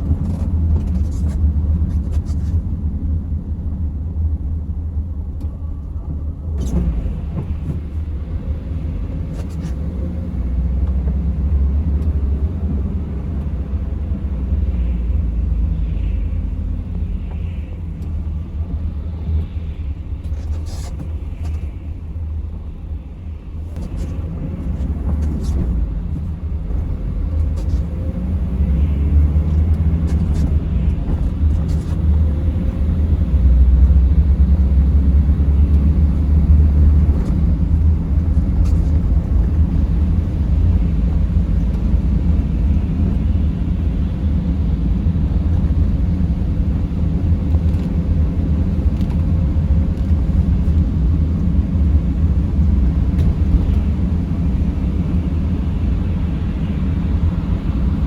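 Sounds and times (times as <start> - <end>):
vehicle engine and tyres rumbling: 0.0 - 58.0.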